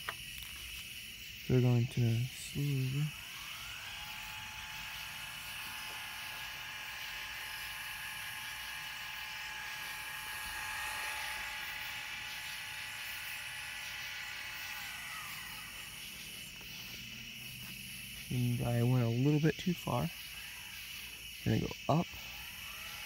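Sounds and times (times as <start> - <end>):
telescope mount motor whine: 0.0 - 23.0.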